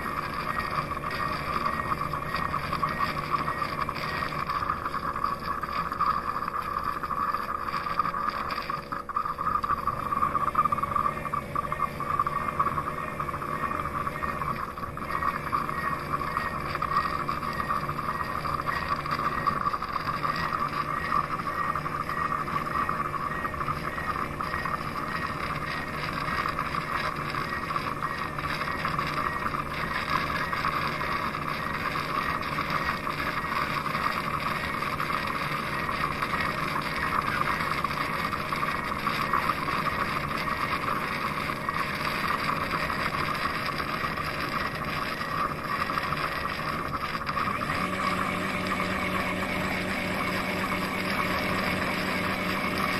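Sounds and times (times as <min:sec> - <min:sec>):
robot vacuum station whirring: 0:00.0 - 0:52.9.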